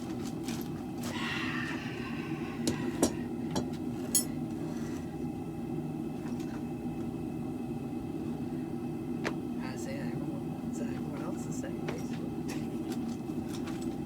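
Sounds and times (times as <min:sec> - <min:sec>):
forge burner running: 0:00.0 - 0:14.0.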